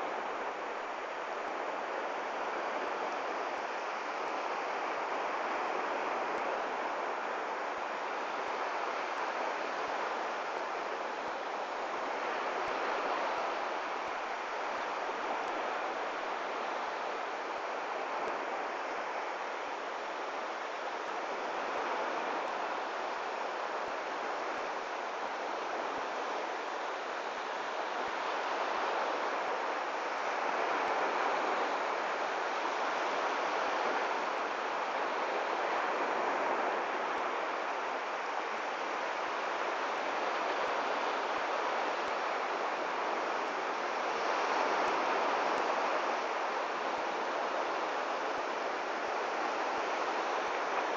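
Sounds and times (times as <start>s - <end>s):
surf washing on beach: 0.0s - 50.9s.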